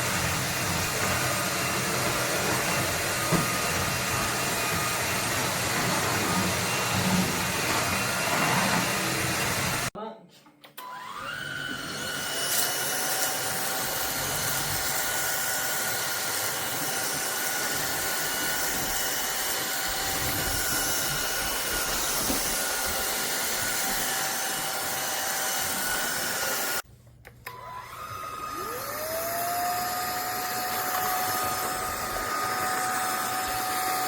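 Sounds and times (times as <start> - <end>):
vacuum cleaner running: 0.0 - 9.9, 10.8 - 26.8, 27.4 - 34.0.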